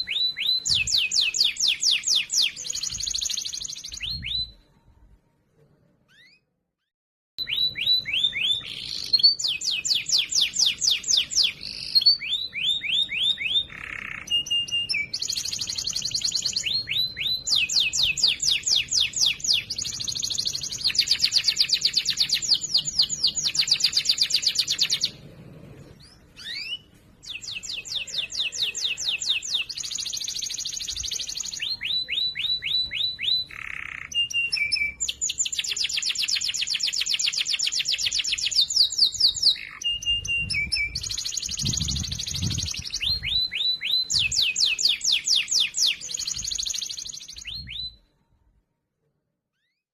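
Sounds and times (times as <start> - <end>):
canary singing trills: 0.0 - 4.7, 7.4 - 48.0.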